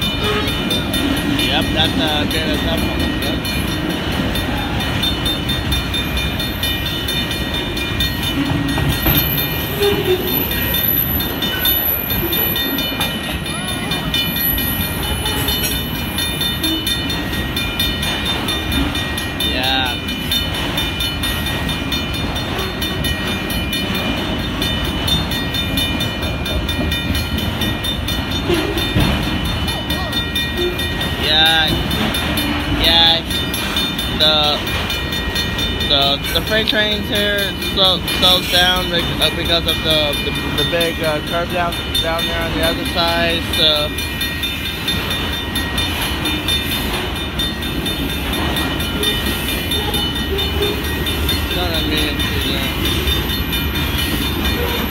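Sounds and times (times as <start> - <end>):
crossing warning bell ringing: 0.0 - 54.9
freight train rumbling on rails: 0.0 - 54.9.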